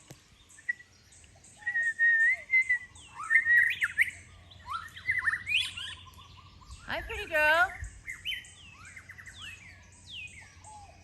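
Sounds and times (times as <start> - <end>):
bird whistling song: 0.0 - 11.0.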